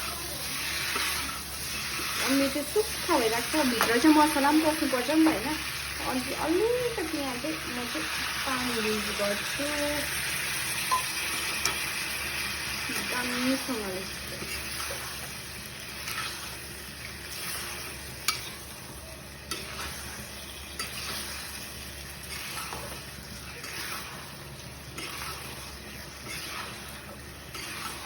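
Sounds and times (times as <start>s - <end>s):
chicken sizzling in a pan: 0.0s - 28.0s.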